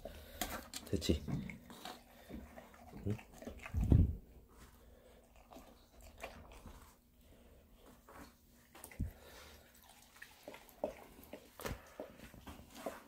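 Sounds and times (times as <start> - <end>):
dog eating wet mouth sounds: 0.5 - 7.3, 8.7 - 13.0.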